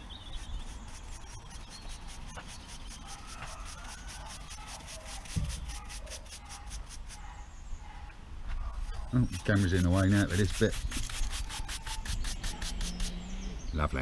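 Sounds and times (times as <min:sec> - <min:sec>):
hand brush sweeping sand: 0:00.0 - 0:07.3, 0:08.8 - 0:13.2.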